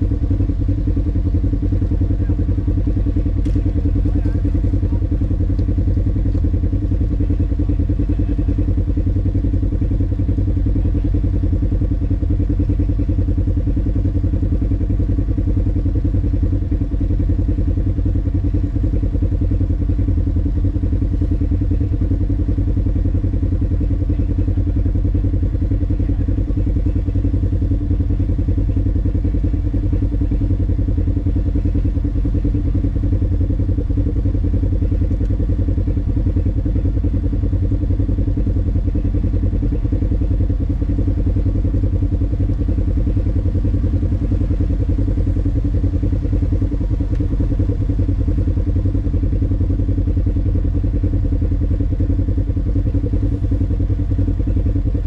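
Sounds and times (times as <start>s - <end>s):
vehicle engine drone: 0.0s - 55.0s.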